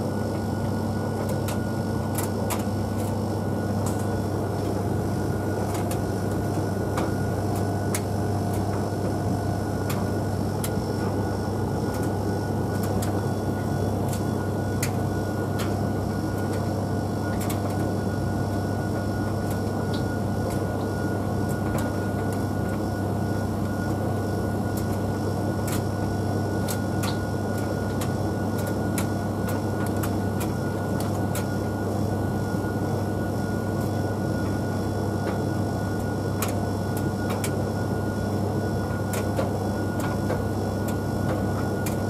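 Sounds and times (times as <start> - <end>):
tumble dryer humming: 0.0 - 42.0.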